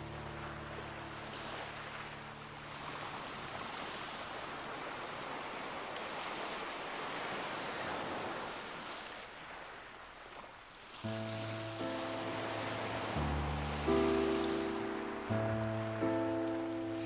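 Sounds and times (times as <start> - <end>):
sea surf rushing: 0.0 - 8.8, 11.0 - 17.0.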